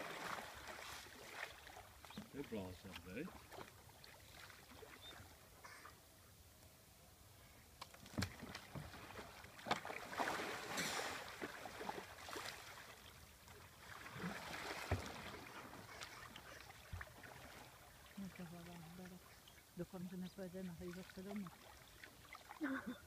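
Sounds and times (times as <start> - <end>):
paddle splashes: 0.0 - 5.9, 7.9 - 23.0
water splashing and sloshing: 0.0 - 6.0, 7.8 - 23.0.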